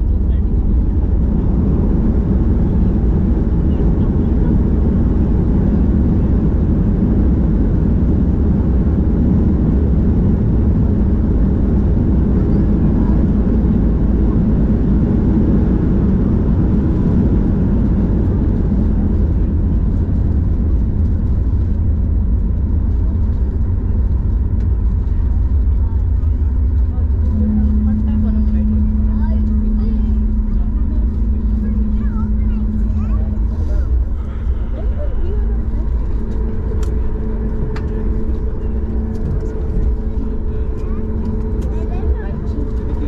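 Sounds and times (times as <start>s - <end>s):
airplane cabin engine rumble: 0.0s - 43.0s.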